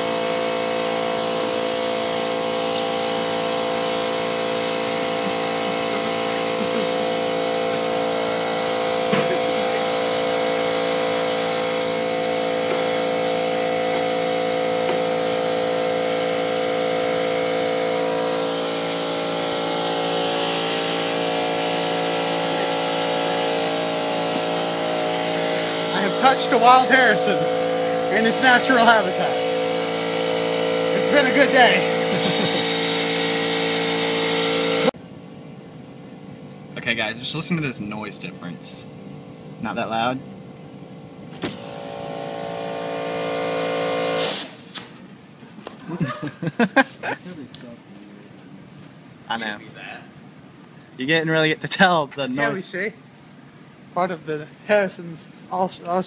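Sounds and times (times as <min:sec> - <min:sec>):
air compressor droning hum: 0:00.0 - 0:56.0.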